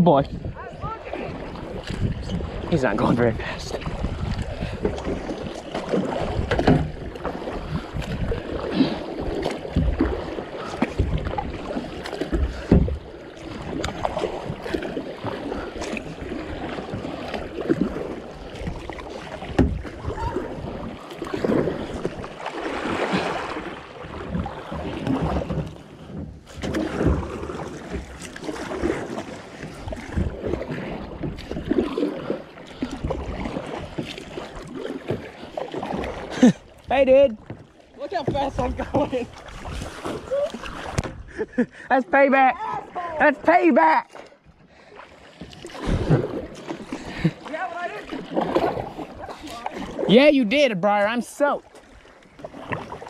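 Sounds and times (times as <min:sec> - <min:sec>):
paddle splashing in water: 0:00.3 - 0:53.0.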